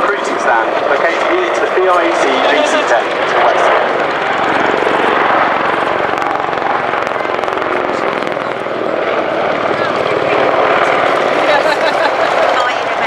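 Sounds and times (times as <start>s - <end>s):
helicopter rotor noise: 0.0s - 13.0s.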